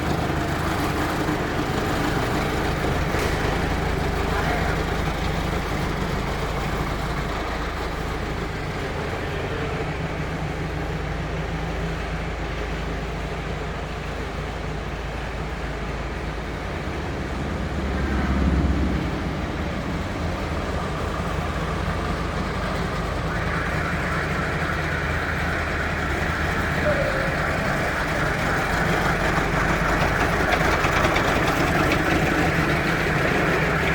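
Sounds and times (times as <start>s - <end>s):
road noise: 0.0s - 33.9s
vehicle engine hum: 0.0s - 33.9s.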